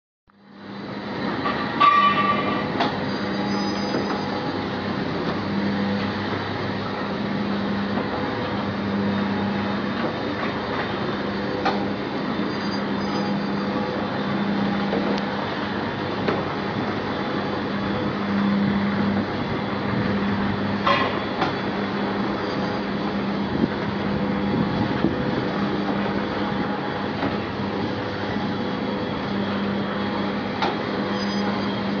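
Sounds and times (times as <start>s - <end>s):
ride mechanical drive noise: 0.6s - 32.0s.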